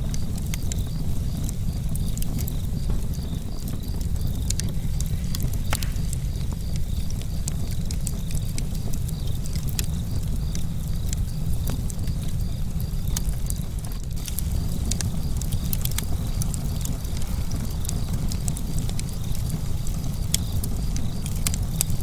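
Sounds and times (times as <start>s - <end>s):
campfire flames rumbling: 0.0s - 22.0s
fire crackling and popping: 0.0s - 22.0s.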